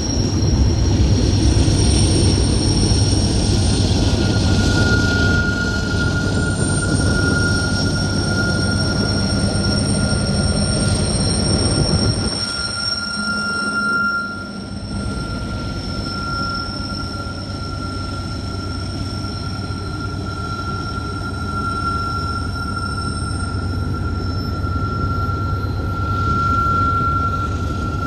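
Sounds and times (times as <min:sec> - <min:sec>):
high-pitched wheel squeal: 0:00.0 - 0:28.0
low rumble of wheels on rail: 0:00.0 - 0:28.0.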